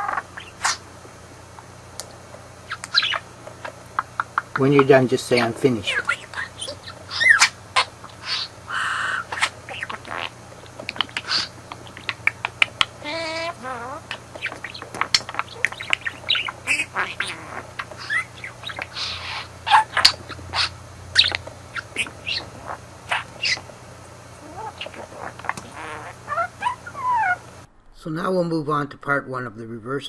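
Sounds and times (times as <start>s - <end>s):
budgerigar chattering: 0.0s - 0.8s, 2.7s - 23.7s, 24.4s - 27.4s.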